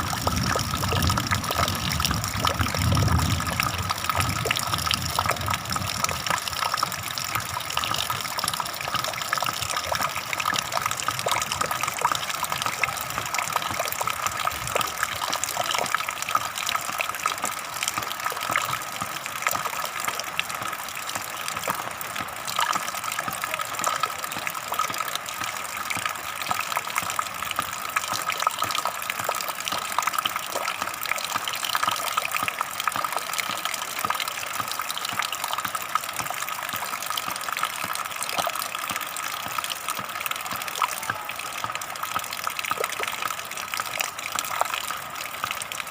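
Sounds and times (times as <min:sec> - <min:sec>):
water gushing and splashing: 0:00.0 - 0:45.9.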